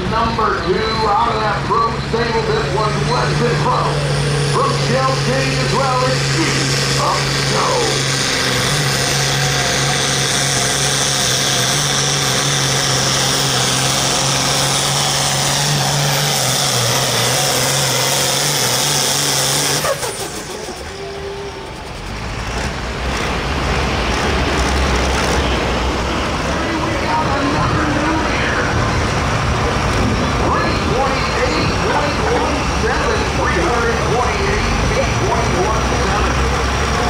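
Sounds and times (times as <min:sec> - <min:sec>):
low engine rumble: 0:00.0 - 0:37.0
tractor engine roaring with whine: 0:00.0 - 0:37.0.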